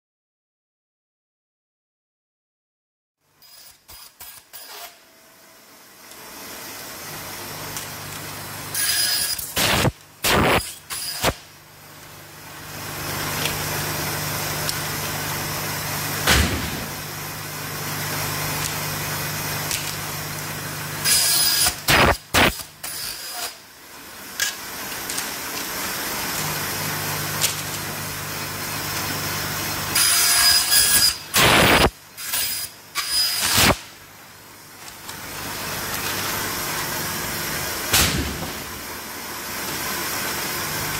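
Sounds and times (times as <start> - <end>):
band saw motor hum: 4.5 - 23.6, 24.6 - 40.9.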